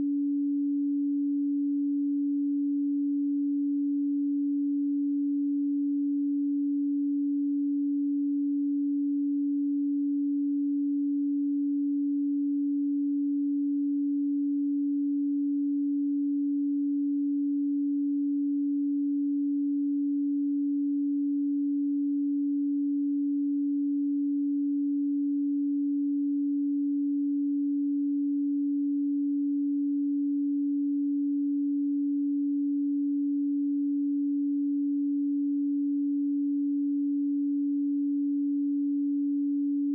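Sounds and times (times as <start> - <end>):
pure sine tone: 0.0 - 39.9.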